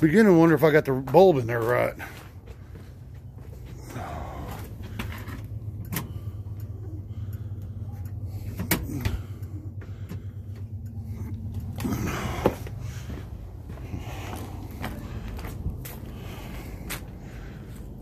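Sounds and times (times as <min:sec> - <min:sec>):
low hum with flutter: 0:02.0 - 0:18.0.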